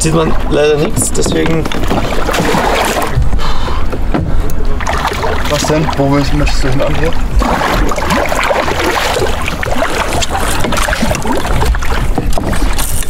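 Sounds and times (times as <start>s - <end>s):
water splashing around kayaks: 0.0s - 13.0s.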